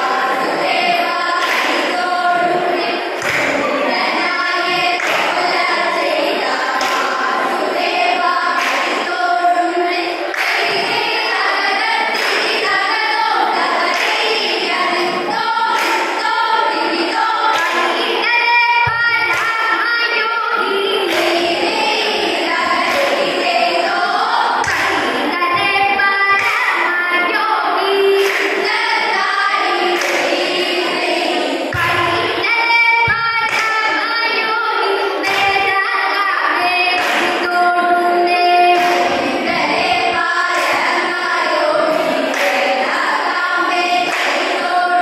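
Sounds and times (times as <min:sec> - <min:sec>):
hand claps: 0:00.0 - 0:44.8
women singing in chorus: 0:00.0 - 0:45.0.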